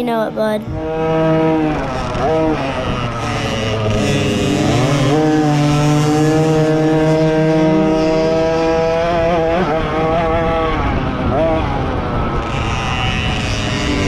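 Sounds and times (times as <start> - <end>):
two-stroke dirt bike engine revving: 0.0 - 14.0.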